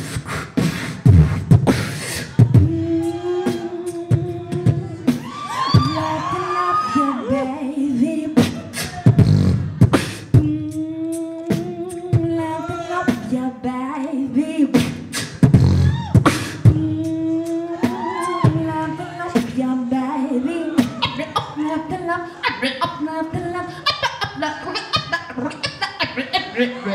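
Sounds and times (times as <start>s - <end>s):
woman beatboxing: 0.0s - 26.5s
held vocal melody: 0.0s - 26.9s.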